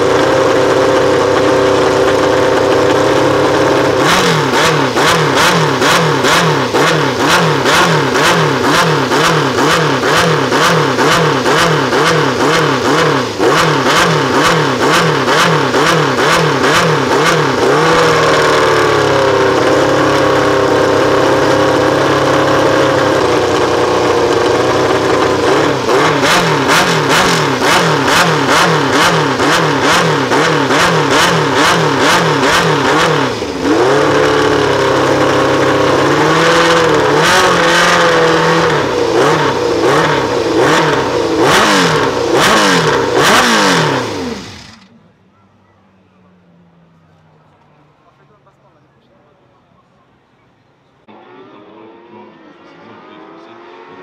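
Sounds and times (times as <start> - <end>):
racing car engine revving: 0.0 - 45.2, 50.9 - 54.0
engine idling: 0.0 - 51.1.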